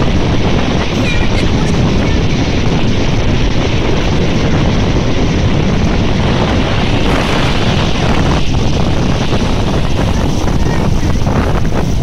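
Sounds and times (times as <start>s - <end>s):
waves breaking on shingle beach: 0.0s - 12.0s
wind buffeting microphone: 0.0s - 12.0s.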